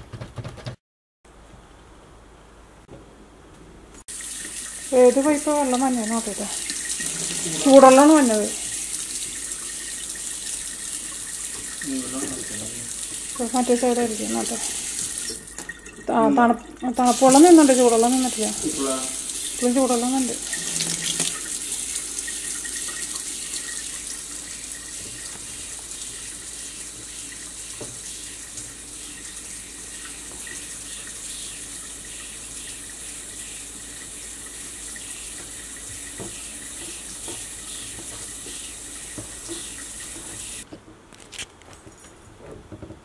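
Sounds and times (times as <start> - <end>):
faucet water running into sink: 4.1 - 40.7.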